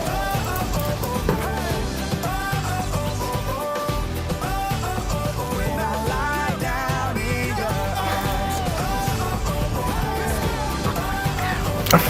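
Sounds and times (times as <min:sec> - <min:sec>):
pop-rock song with vocals and guitar: 0:00.0 - 0:12.0.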